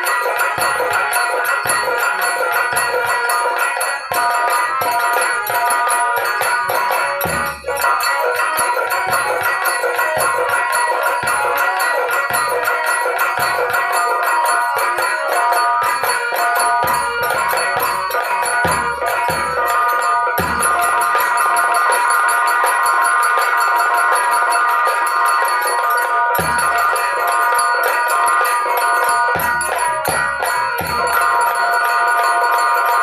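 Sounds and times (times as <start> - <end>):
drum strokes: 0.0 - 23.5, 24.8 - 32.9
jingling metal percussion: 0.0 - 33.0
sustained melodic instrument: 0.0 - 33.0.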